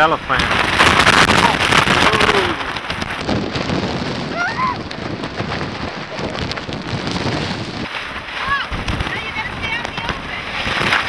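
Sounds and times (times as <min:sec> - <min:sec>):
wind and rain roaring: 0:00.0 - 0:11.0.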